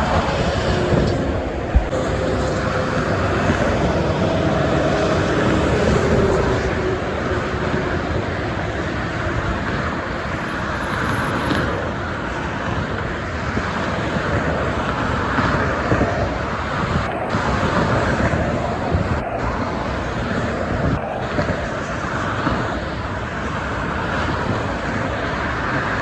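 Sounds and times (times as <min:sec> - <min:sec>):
expressway traffic noise: 0:00.0 - 0:26.0.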